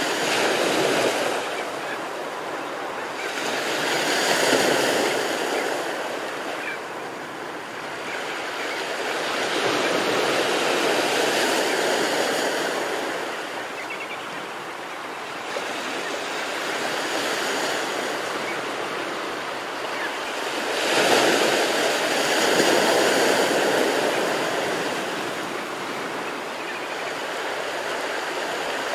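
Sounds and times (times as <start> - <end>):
ocean waves breaking on beach: 0.0 - 28.9.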